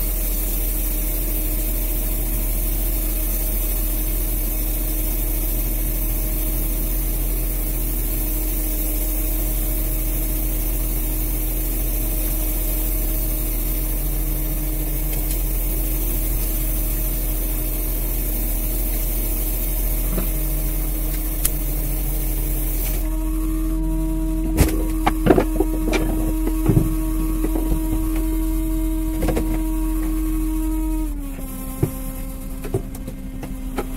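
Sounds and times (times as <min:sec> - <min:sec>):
boat engine droning: 0:04.1 - 0:33.9.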